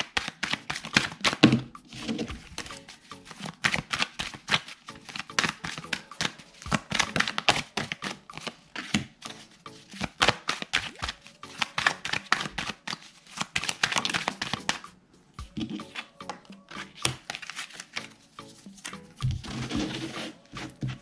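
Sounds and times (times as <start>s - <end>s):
cards being shuffled: 0.0s - 14.9s, 15.5s - 21.0s
soft background music: 0.0s - 21.0s.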